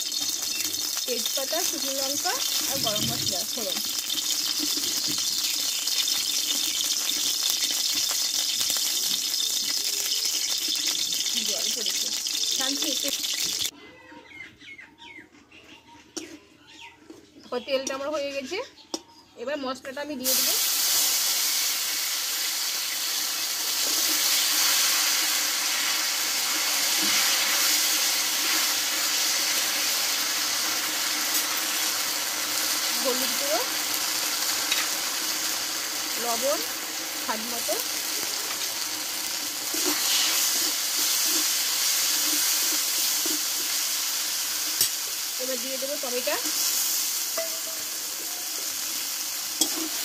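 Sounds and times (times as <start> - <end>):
oil sizzling in a pan: 0.0 - 13.8, 20.2 - 50.0
spices crackling: 0.0 - 13.8, 17.5 - 50.0.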